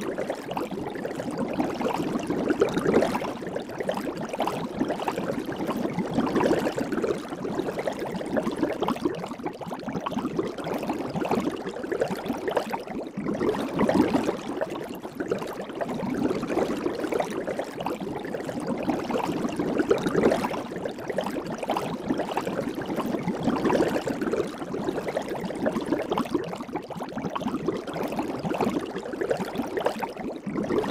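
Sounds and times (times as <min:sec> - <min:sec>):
soapy water bubbling: 0:00.0 - 0:30.9.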